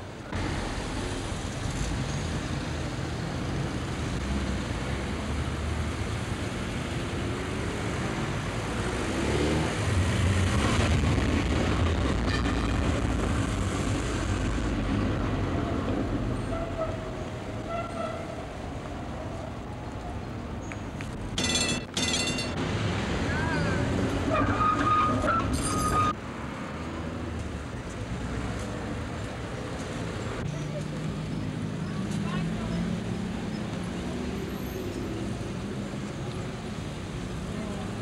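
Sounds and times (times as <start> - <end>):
rumble of passing cars: 0.0 - 38.0.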